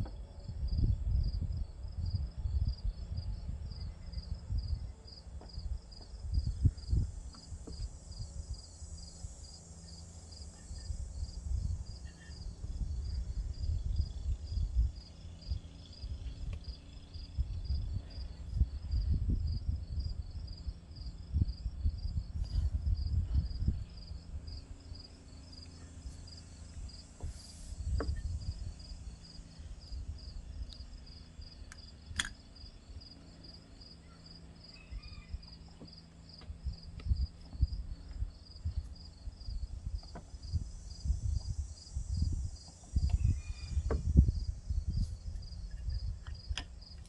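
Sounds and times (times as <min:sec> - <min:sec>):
crickets chirping: 0:00.1 - 0:47.0.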